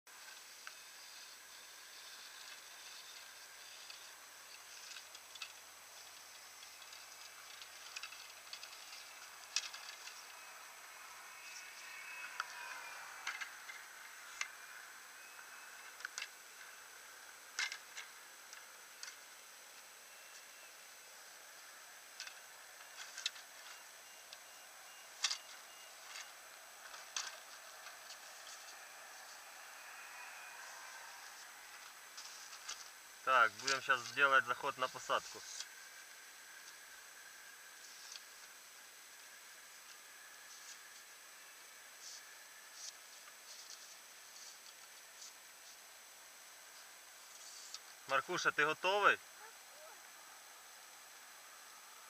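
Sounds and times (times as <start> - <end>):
faint steady high hiss: 0.1 - 52.0.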